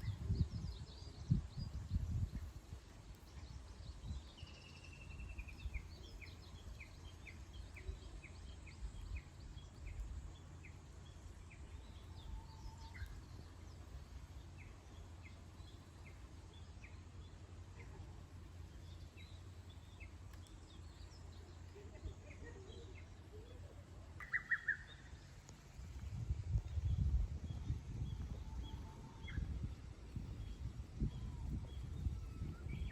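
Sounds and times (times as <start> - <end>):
birds singing and chirping: 0.0 - 32.9
faint low rumble: 0.0 - 32.9.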